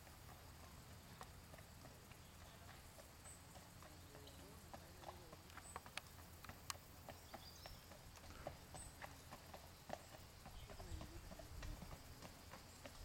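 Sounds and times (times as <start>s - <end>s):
horse hooves on dirt: 0.0s - 13.0s.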